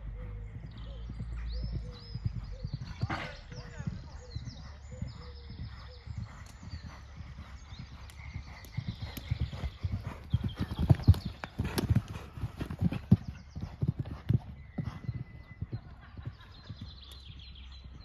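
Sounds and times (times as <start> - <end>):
horse hoofbeats on sand: 0.0 - 18.0.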